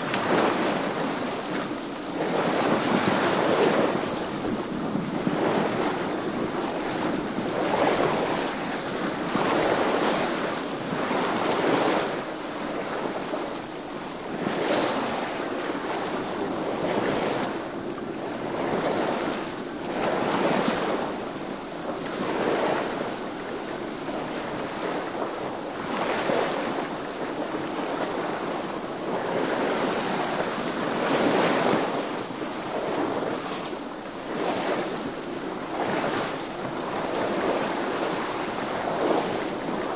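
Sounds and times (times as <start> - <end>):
waves splashing against hull: 0.0 - 39.9.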